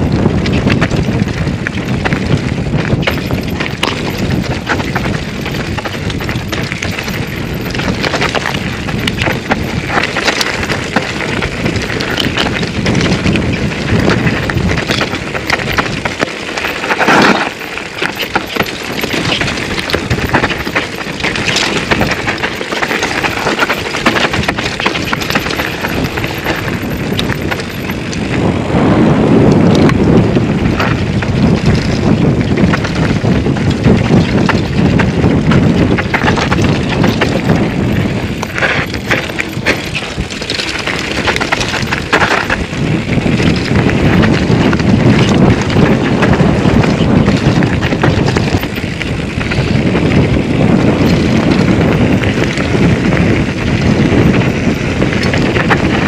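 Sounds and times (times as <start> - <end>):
mountain bike rattling over rough ground: 0.0 - 56.0
wind on camera microphone: 0.0 - 56.0.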